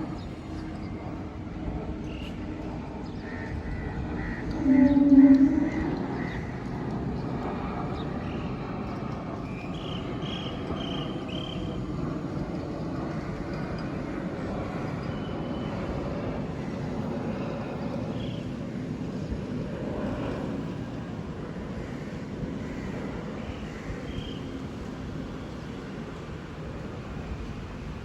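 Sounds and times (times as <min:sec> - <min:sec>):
jet airliner engine rushing: 0:00.0 - 0:28.0.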